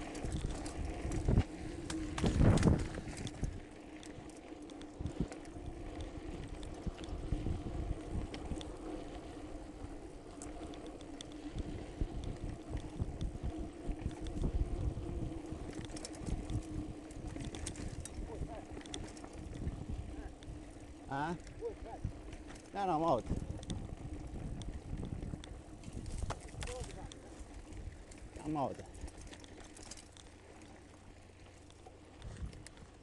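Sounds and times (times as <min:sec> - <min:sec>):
wind rush on microphone: 0:00.0 - 0:04.3, 0:04.9 - 0:10.3, 0:10.9 - 0:29.2, 0:32.2 - 0:33.0
bike rattling and knocking: 0:00.0 - 0:09.2, 0:12.3 - 0:30.3.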